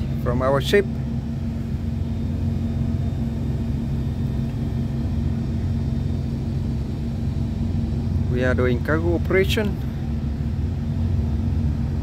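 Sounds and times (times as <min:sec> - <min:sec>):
machinery hum of pumps and generators: 0:00.0 - 0:12.0.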